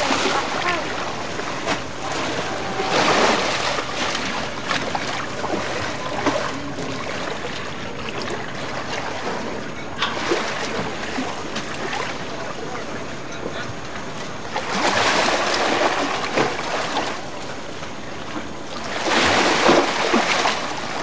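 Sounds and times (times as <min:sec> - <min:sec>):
waves surging and splashing: 0:00.0 - 0:21.0.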